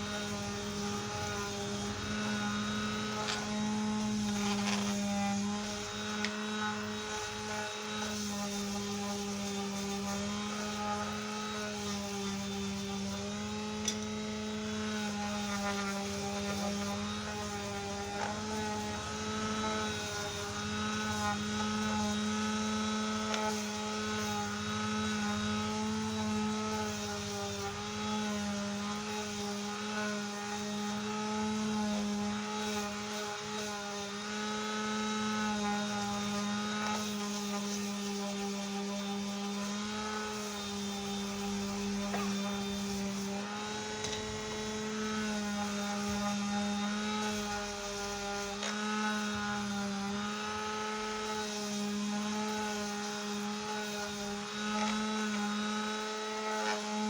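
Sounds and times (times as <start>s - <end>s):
electric sander sanding wood: 0.0s - 57.0s.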